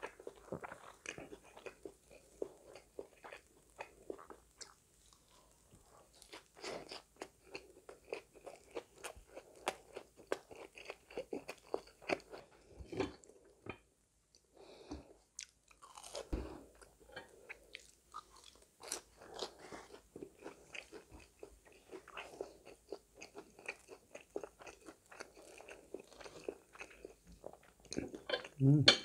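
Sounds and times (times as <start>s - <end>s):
crunchy chewing: 0.0s - 13.3s, 15.4s - 28.6s.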